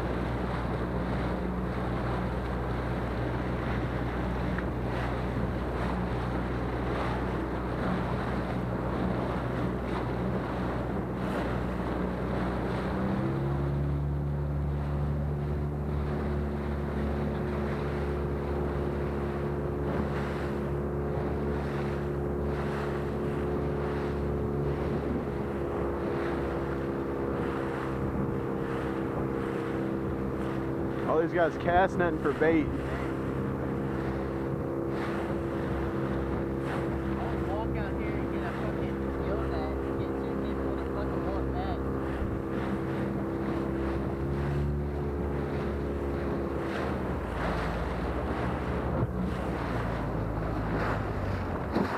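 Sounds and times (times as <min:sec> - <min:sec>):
outboard motor running: 0:00.0 - 0:51.9
water rushing past hull: 0:00.0 - 0:51.9
wind buffeting microphone: 0:00.0 - 0:51.9.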